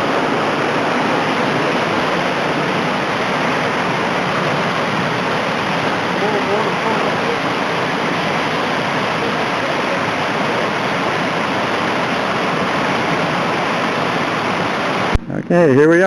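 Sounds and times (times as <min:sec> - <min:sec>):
waterfall rushing over rock: 0:00.0 - 0:16.0.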